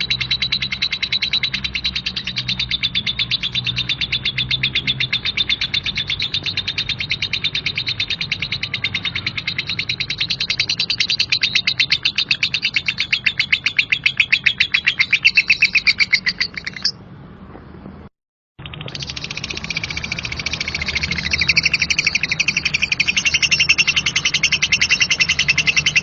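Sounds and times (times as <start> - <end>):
lovebird chattering: 0.0 - 17.0, 18.6 - 26.0.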